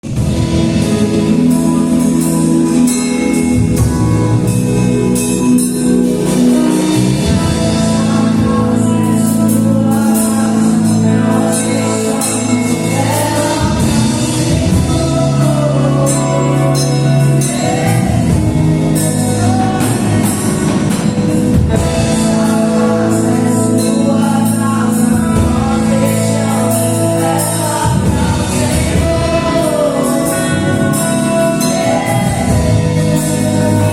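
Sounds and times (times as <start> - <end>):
band holding sustained chords: 0.0 - 33.9
person singing: 0.0 - 33.9.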